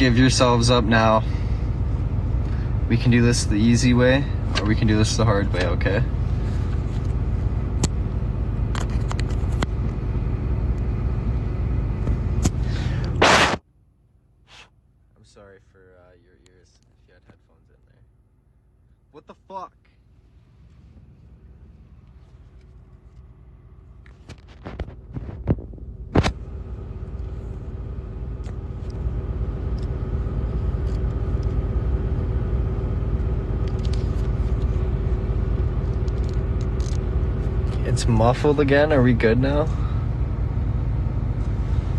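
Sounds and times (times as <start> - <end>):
truck engine idling: 0.0 - 13.2, 19.9 - 41.9.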